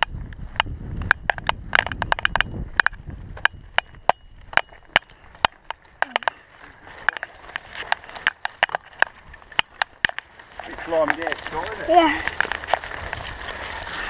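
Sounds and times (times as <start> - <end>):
bike frame clattering: 1.1 - 14.0.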